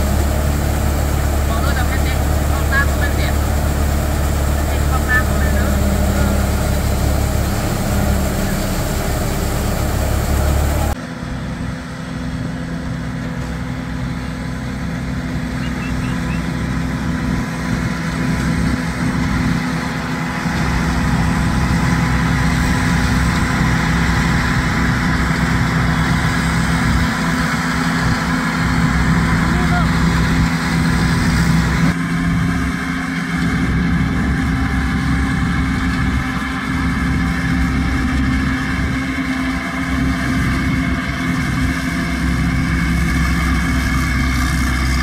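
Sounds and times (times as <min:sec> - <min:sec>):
combine harvester engine drone: 0:00.0 - 0:45.0.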